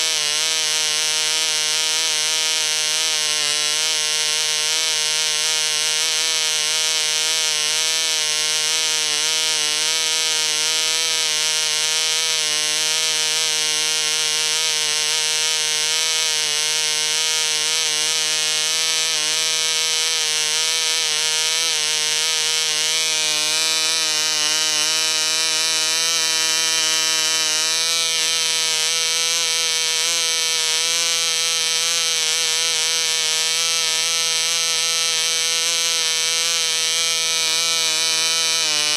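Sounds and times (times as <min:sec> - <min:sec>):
small two-stroke engine buzzing: 0:00.0 - 0:38.9.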